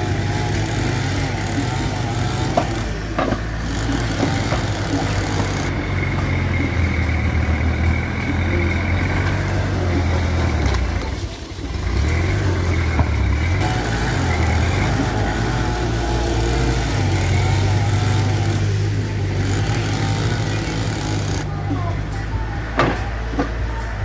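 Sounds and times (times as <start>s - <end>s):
bulldozer diesel engine working: 0.0s - 24.0s.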